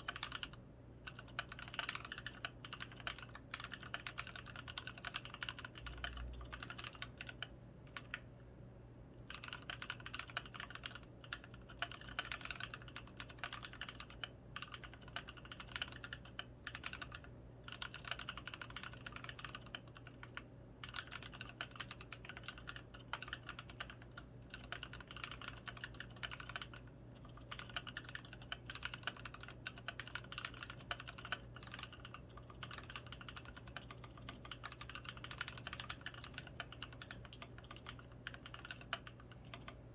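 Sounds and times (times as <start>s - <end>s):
mechanical keyboard typing: 0.0s - 8.3s, 9.2s - 39.8s.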